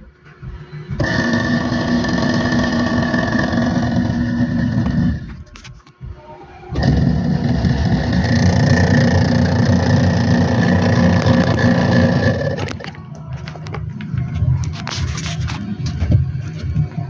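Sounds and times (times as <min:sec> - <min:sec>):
washing machine motor whining: 0:00.0 - 0:17.0.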